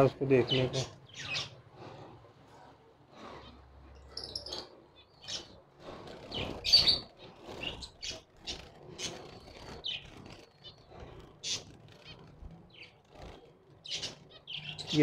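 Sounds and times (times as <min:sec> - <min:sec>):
cage birds chirping: 0:00.0 - 0:15.0.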